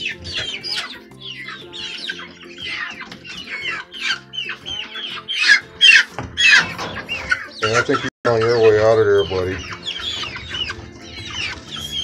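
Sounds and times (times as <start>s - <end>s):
background music: 0.0s - 12.0s
hens clucking: 0.0s - 12.0s.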